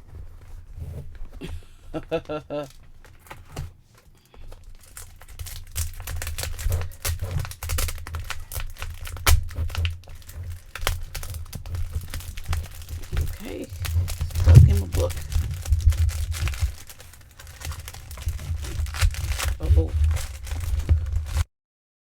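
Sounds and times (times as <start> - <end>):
plastic and paper rustling: 0.0 - 21.5.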